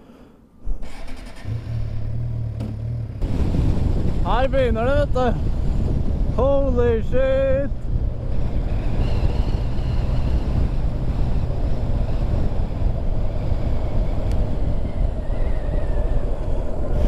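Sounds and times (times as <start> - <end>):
wind buffeting microphone: 3.2 - 17.0.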